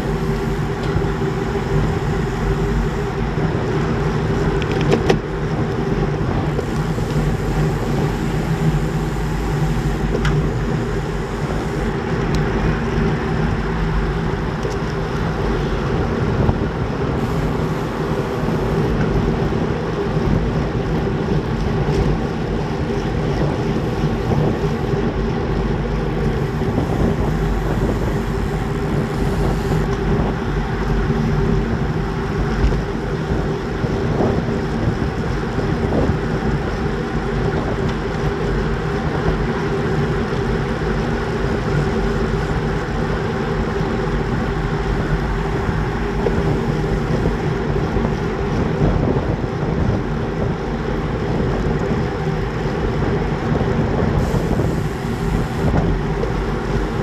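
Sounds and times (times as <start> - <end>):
bike tyres rolling on dirt: 0.0 - 48.8
wind rushing over microphone: 0.0 - 57.0.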